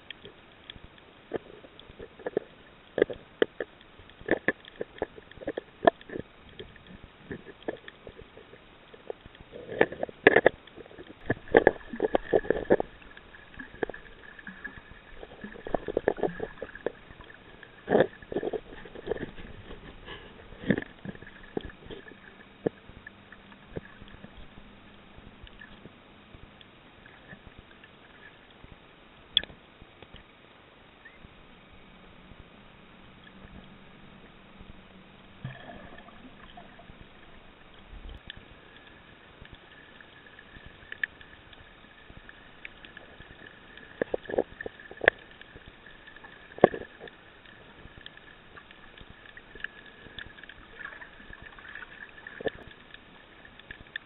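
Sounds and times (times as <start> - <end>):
faint steady hum: 0.0 - 54.0
underwater gurgles and sloshes: 0.0 - 54.0.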